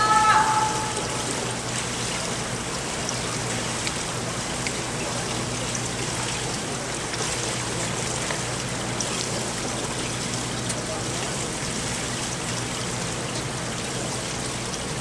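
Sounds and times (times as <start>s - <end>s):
water rushing and trickling: 0.0s - 15.0s.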